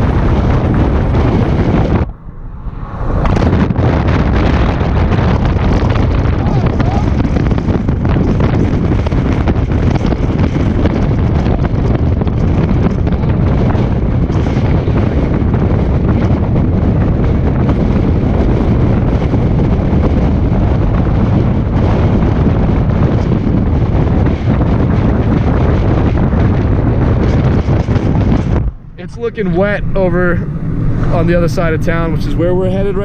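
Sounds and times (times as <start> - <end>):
road and wind noise in car: 0.0 - 33.0
wind buffeting microphone: 0.0 - 33.0.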